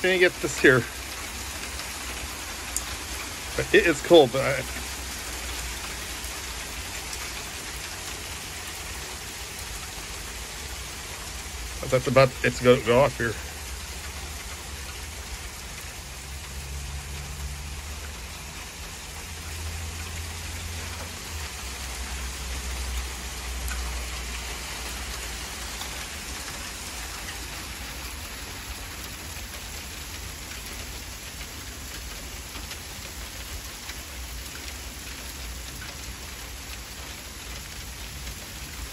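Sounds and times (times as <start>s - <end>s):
hail and rain pattering on concrete: 0.0s - 38.9s.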